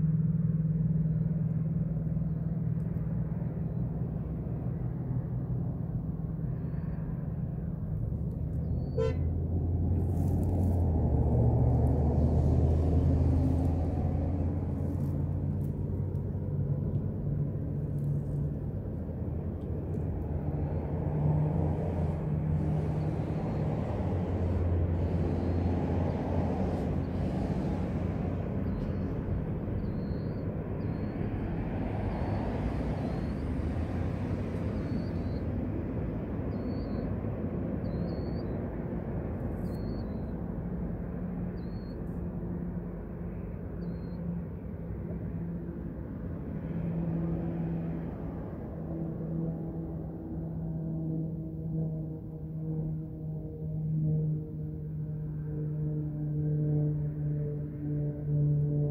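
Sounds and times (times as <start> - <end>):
passing vehicles rumbling: 0.0 - 58.9.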